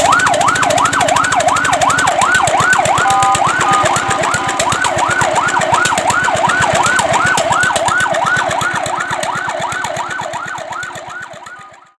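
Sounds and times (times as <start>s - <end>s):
fire truck siren yelping: 0.0s - 12.0s.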